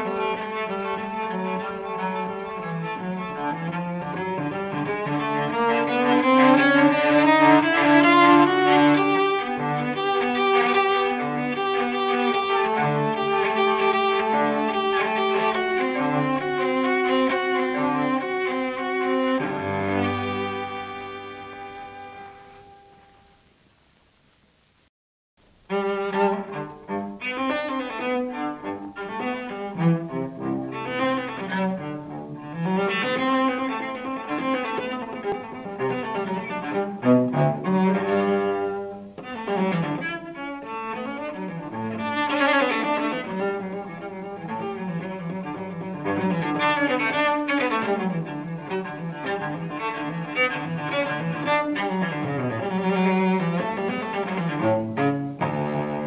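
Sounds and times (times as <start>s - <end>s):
bowed cello melody: 0.0s - 23.2s, 25.7s - 56.0s.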